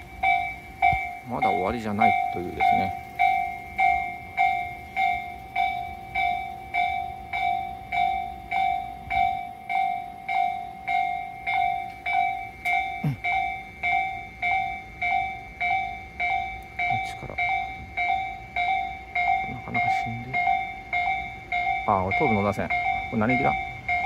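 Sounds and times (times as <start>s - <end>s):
level crossing bell ringing: 0.0s - 24.0s.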